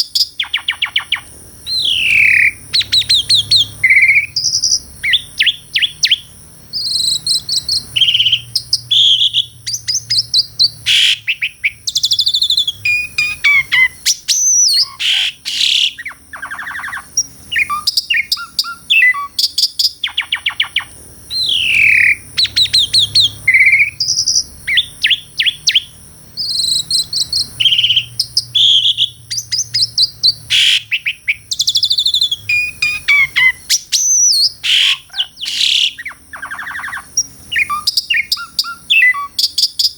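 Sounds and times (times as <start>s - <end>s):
starling singing varied song: 0.0s - 39.9s.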